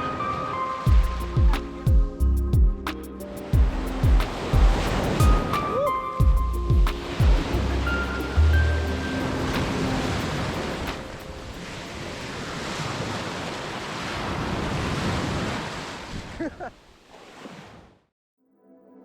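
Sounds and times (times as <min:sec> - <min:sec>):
sea surf washing ashore: 0:00.0 - 0:02.2, 0:02.8 - 0:18.0
wind on microphone: 0:00.9 - 0:16.4.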